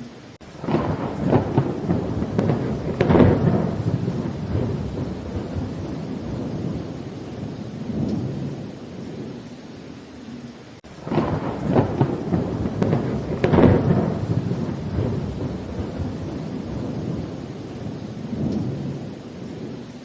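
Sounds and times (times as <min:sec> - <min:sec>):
rain: 0:00.0 - 0:20.0
thunder rumbling and crackling: 0:00.4 - 0:20.0.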